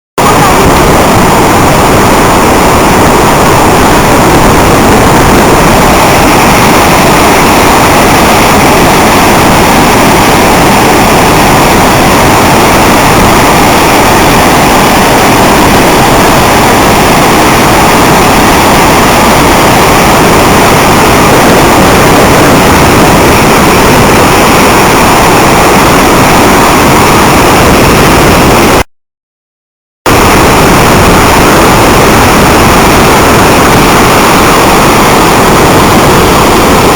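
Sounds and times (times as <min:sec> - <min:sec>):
river rushing over waterfall: 0:00.2 - 0:28.8, 0:30.1 - 0:36.9.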